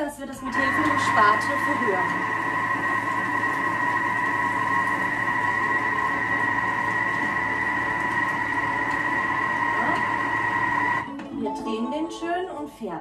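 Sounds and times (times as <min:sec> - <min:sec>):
food processor motor whine: 0:00.2 - 0:11.1.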